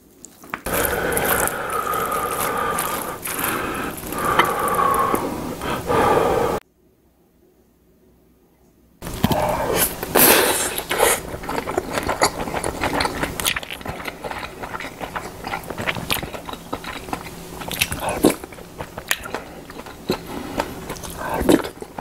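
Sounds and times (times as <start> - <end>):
person chewing: 0.3 - 6.6, 9.0 - 22.0.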